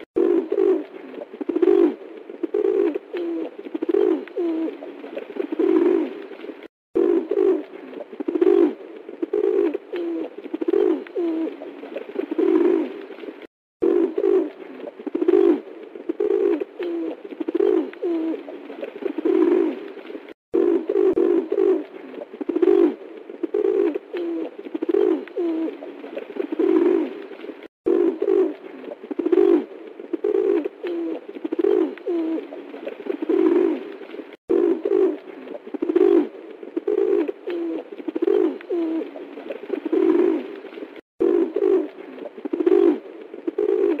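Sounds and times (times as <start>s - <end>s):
pigeon cooing: 0.2s - 6.2s, 7.0s - 13.0s, 13.8s - 19.8s, 20.6s - 27.2s, 27.9s - 33.9s, 34.5s - 40.5s, 41.2s - 44.0s.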